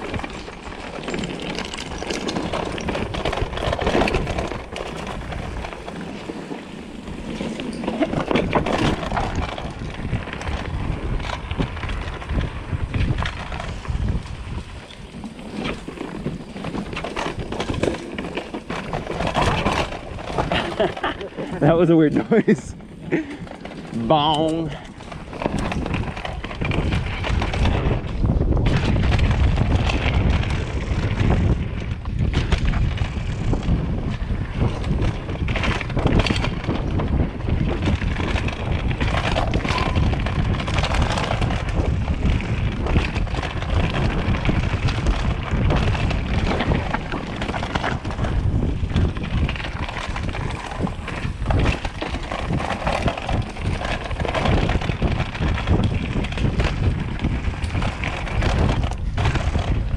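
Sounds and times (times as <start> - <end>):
tyres rumbling over dirt and rocks: 0.0 - 59.9
wind buffeting microphone: 0.0 - 59.9.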